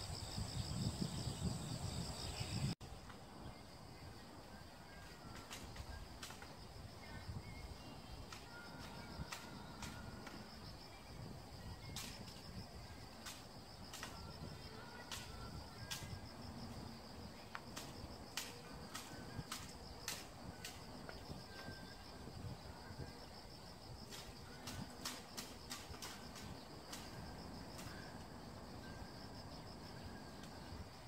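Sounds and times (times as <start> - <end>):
high insect trill: 0.0 - 31.0.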